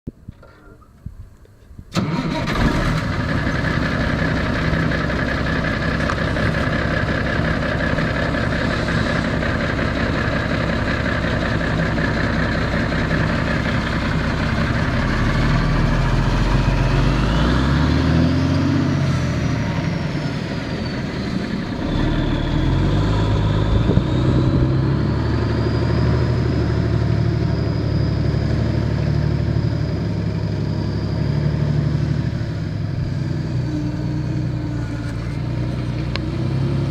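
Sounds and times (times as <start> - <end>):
high engine whine: 1.9 - 36.9
truck engine running: 2.0 - 36.9.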